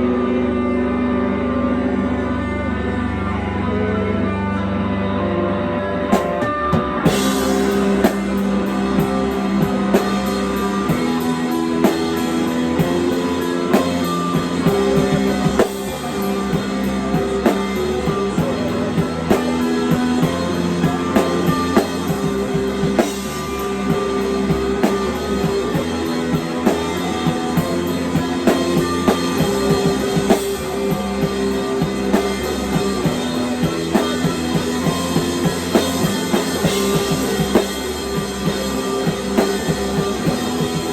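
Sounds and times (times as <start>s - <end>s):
rock music with drums and guitar: 0.0s - 40.9s.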